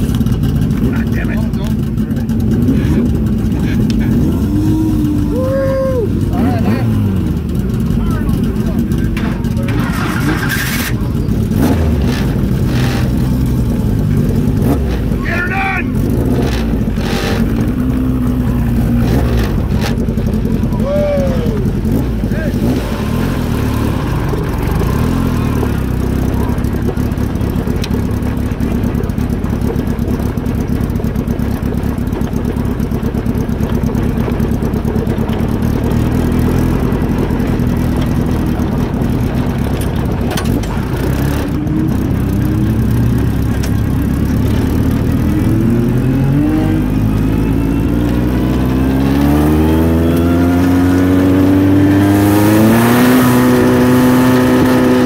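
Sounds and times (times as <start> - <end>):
engine revving: 0.0 - 31.7, 33.6 - 55.0.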